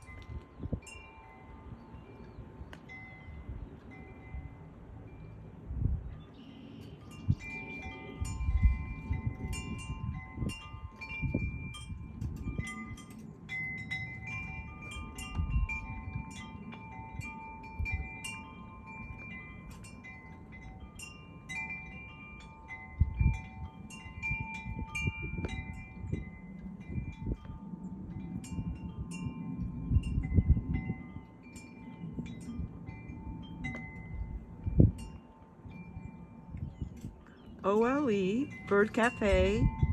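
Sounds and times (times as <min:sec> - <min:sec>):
metal wind chimes ringing: 0:00.0 - 0:39.9
wind rumble on microphone: 0:00.0 - 0:39.9.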